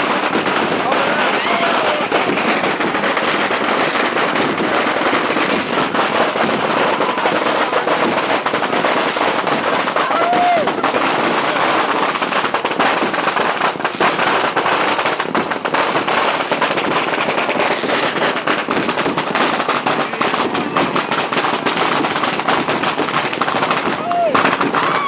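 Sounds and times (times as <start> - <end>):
firecrackers crackling and banging: 0.0 - 25.0.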